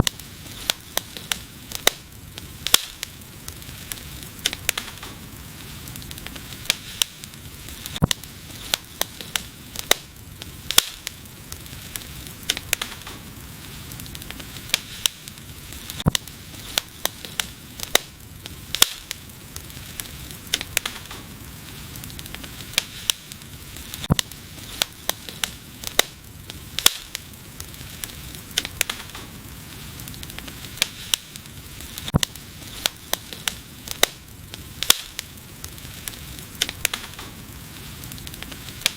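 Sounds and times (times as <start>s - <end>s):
low hiss of flames: 0.0s - 38.9s
wood fire crackling and popping: 0.0s - 38.9s.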